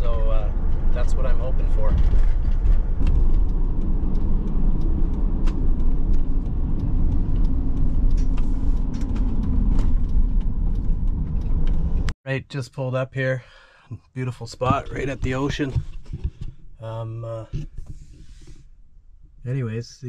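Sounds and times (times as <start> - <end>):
road and engine rumble: 0.0 - 12.2, 14.3 - 20.0.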